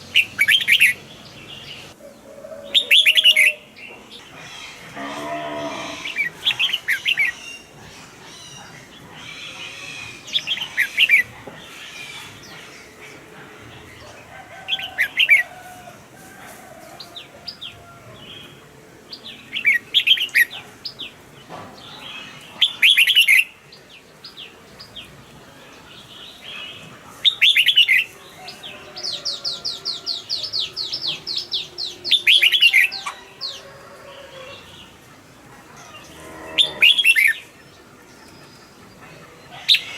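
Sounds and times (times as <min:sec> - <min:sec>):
bulbuls singing: 0:00.0 - 0:39.9.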